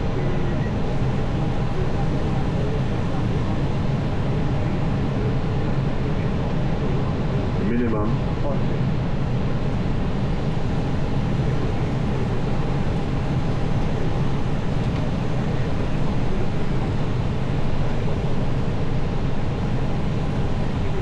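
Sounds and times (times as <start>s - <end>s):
airflow and aircraft engines: 0.0s - 21.0s.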